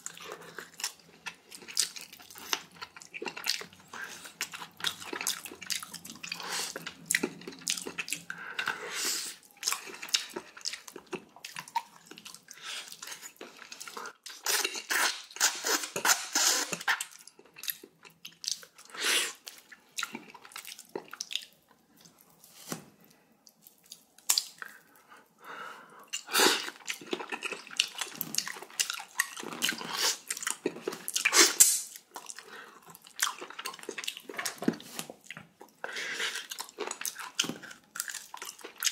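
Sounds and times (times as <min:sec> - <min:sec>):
wet chewing and slurping: 0:00.0 - 0:22.8, 0:26.1 - 0:38.9.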